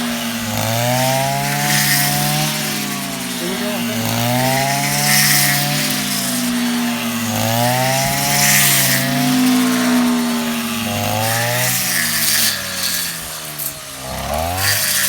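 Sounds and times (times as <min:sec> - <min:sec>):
hiss of cutting: 0:00.0 - 0:13.8
harvester engine running hard: 0:00.0 - 0:15.0.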